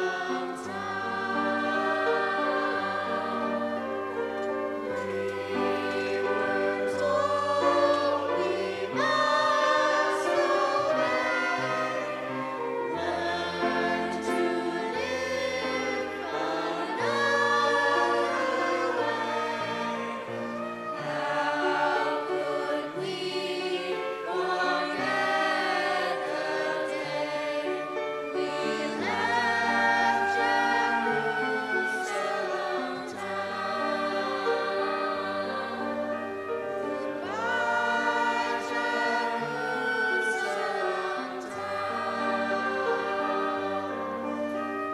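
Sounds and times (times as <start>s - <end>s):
choir singing: 0.0s - 44.9s
instrumental accompaniment: 0.0s - 44.9s.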